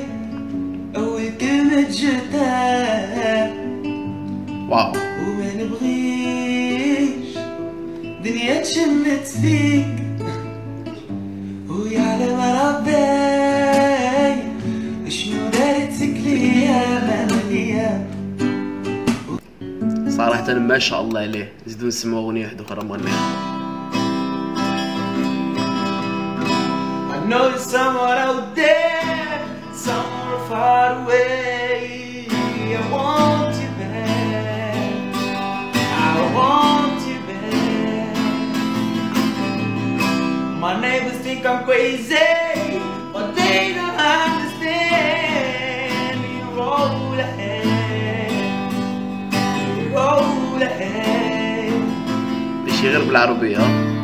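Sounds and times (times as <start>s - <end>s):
young man singing: 0.0s - 4.0s, 4.7s - 10.3s, 11.6s - 18.3s, 27.0s - 54.0s
acoustic guitar: 0.0s - 54.0s.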